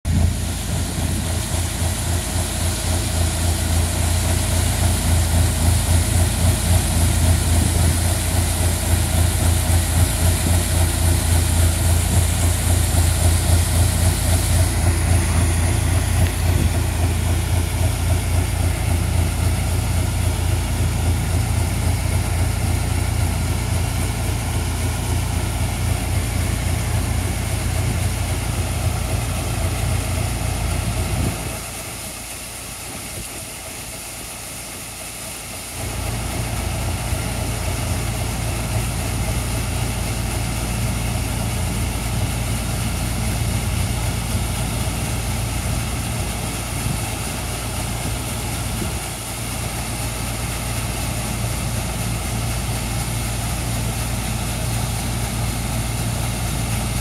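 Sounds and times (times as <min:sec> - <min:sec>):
combine engine running: 0:00.0 - 0:57.0
hiss: 0:00.1 - 0:57.0.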